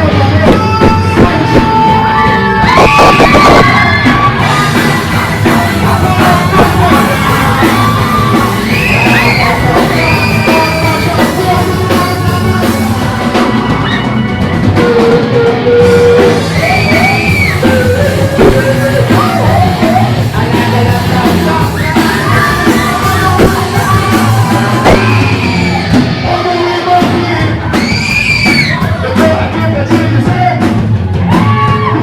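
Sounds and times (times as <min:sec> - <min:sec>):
voices singing long notes: 0:00.0 - 0:29.2
live rock gospel band: 0:00.0 - 0:32.0.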